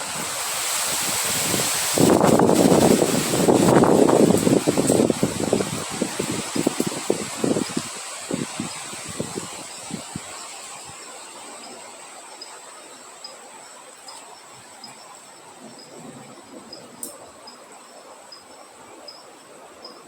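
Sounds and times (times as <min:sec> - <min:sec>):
crickets chirping: 0:00.0 - 0:20.0
soft windy hiss: 0:00.0 - 0:20.0
high-pitched insect drone: 0:02.1 - 0:20.0.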